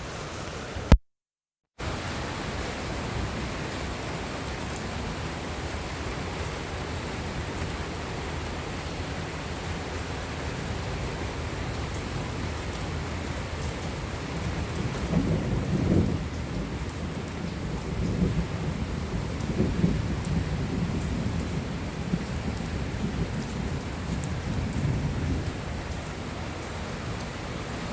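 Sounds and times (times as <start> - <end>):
steady rain: 1.8 - 27.9
thunder rumbling: 1.8 - 27.9.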